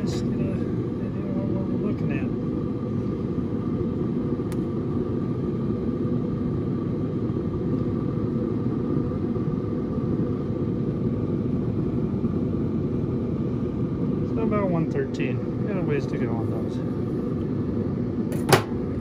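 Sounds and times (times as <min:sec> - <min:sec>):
faint whine: 0:00.0 - 0:19.0
smoker fan humming: 0:00.0 - 0:19.0.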